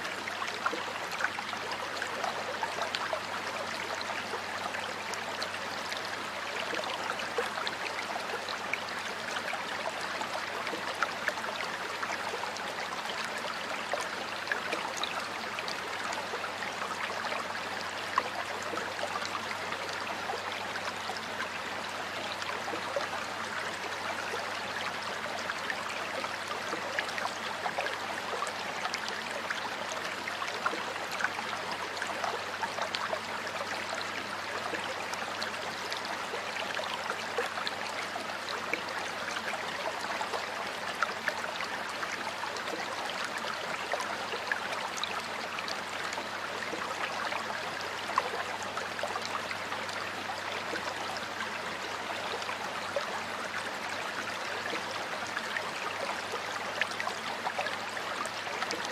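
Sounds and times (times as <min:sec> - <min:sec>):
stream water flowing: 0:00.0 - 0:58.9.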